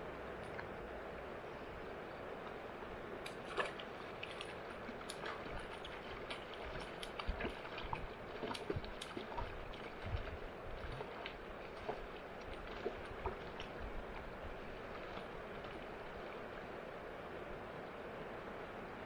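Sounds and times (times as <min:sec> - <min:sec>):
water splashing and lapping: 0:00.0 - 0:17.5
river water rushing: 0:00.0 - 0:19.0.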